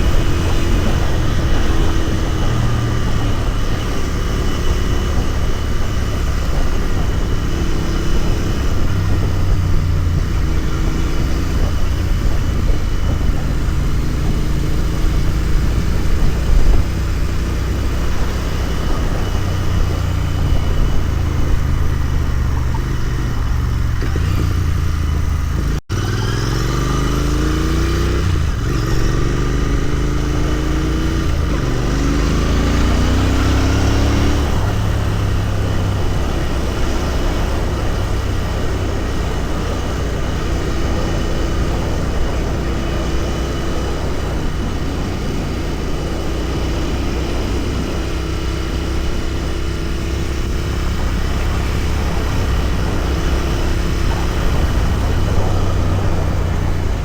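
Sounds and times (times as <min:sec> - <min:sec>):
wind rush: 0:00.0 - 0:24.3, 0:27.3 - 0:57.0
motorcycle engine accelerating: 0:00.0 - 0:57.0.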